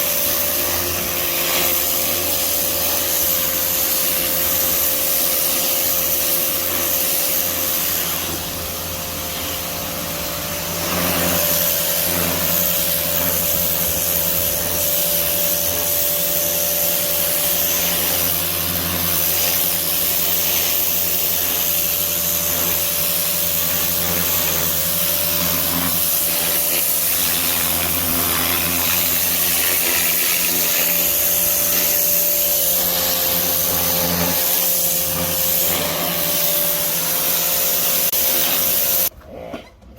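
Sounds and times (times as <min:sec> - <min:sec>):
pressure washer motor hum: 0:00.0 - 0:39.1
water spray hissing: 0:00.0 - 0:39.1.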